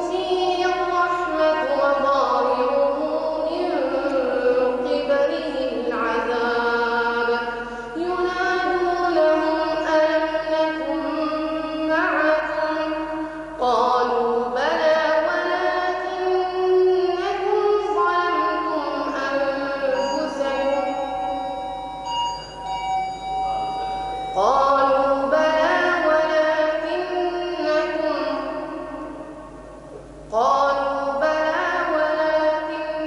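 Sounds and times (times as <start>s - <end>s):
boy chanting melodically: 0.0s - 22.1s, 23.4s - 29.5s, 30.3s - 33.0s.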